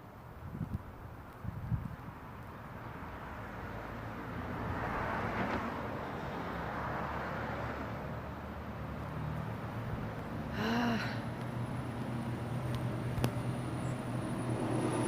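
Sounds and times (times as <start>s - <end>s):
vehicle passing: 2.9s - 15.0s.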